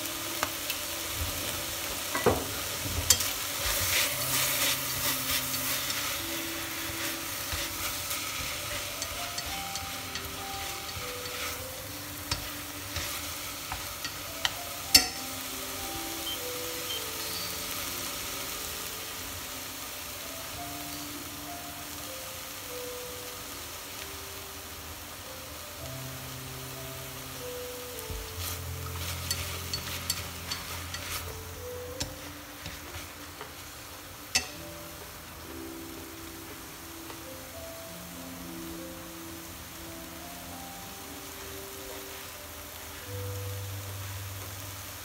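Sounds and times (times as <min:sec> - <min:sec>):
stir-fry sizzling: 0:00.0 - 0:45.0.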